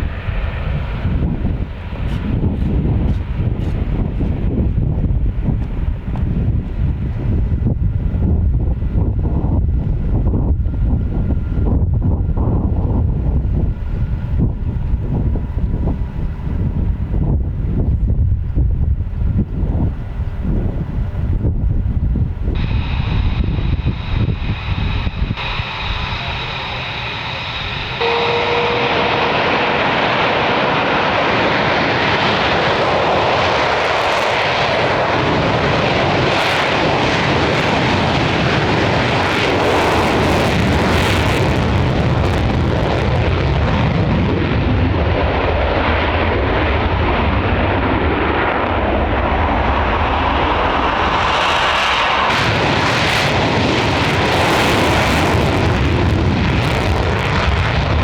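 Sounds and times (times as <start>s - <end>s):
jet aircraft engine noise: 0.0s - 58.0s.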